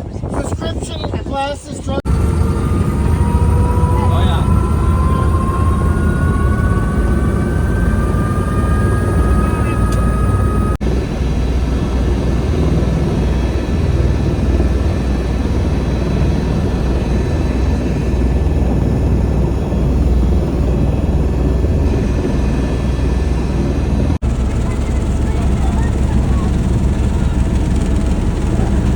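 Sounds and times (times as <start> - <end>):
helicopter engine and rotor rumble: 2.1 - 28.9.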